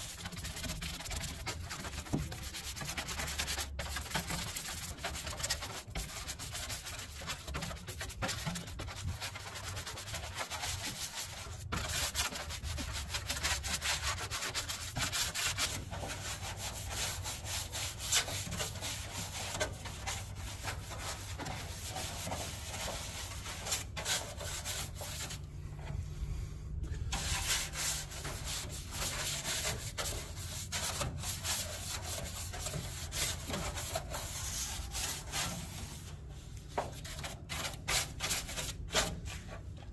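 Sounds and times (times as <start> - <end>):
brush scrubbing insulation pad: 0.0 - 25.9, 27.1 - 39.9.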